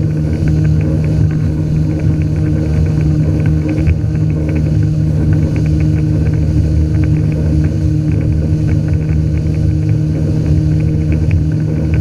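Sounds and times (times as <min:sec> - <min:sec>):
jet ski engine droning: 0:00.0 - 0:12.0.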